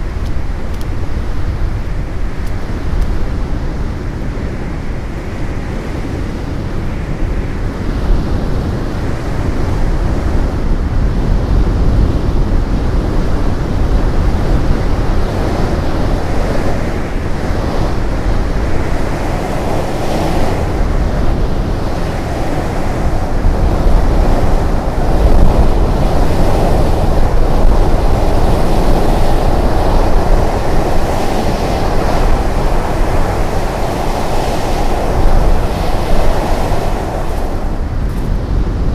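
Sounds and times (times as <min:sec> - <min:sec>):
strong wind buffeting microphone: 0:00.0 - 0:38.9.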